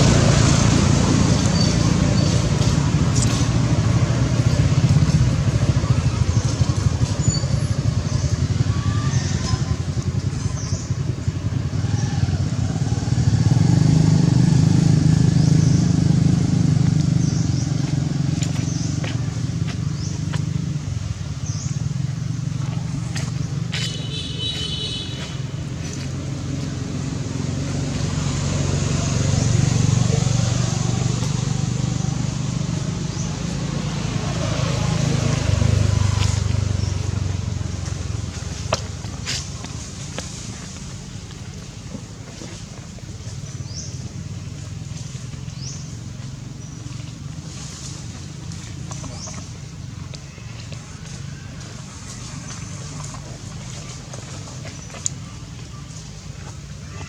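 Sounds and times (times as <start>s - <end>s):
motor engine rumbling: 0.0s - 57.0s.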